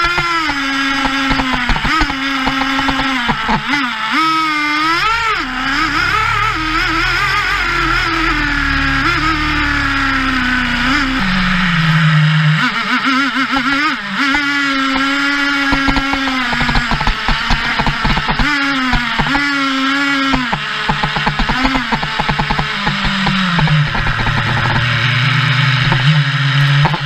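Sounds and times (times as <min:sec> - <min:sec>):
model engine revving: 0:00.0 - 0:27.0.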